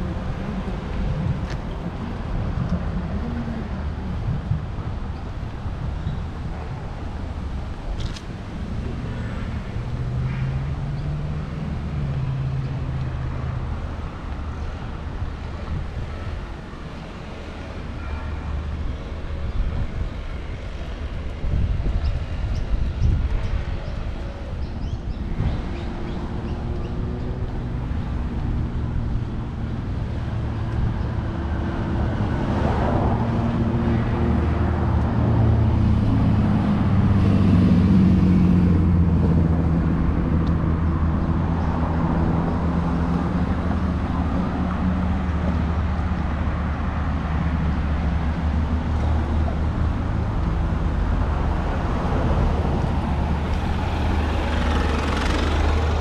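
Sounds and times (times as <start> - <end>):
vehicle engines running: 0.0 - 56.0.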